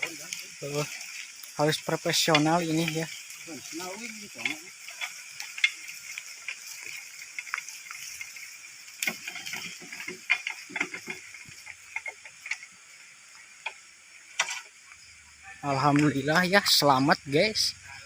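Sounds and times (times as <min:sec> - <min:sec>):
tractor scraping down dirt slope: 0:00.0 - 0:14.8
steady high hiss: 0:00.0 - 0:18.0.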